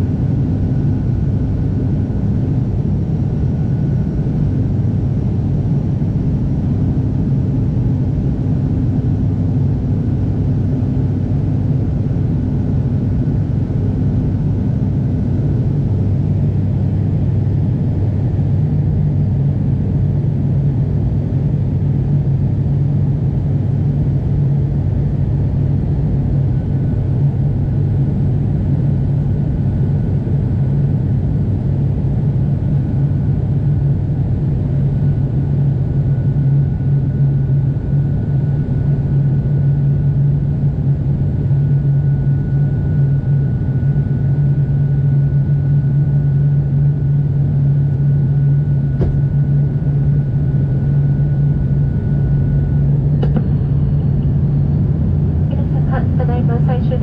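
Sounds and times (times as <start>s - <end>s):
airliner engine drone: 0.0s - 57.0s.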